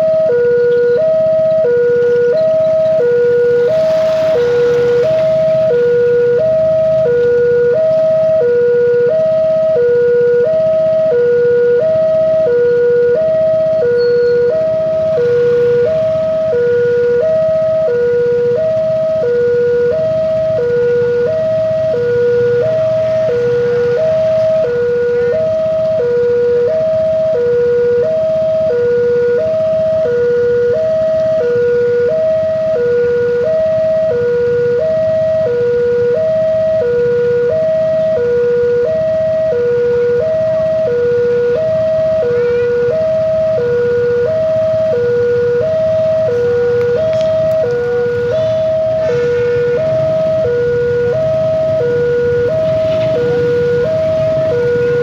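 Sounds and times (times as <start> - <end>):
two-tone crossing alarm: 0.0 - 55.0.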